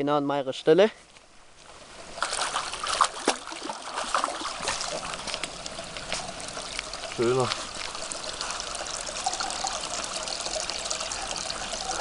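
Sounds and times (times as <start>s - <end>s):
fish thrashing and splashing water: 2.1s - 12.0s.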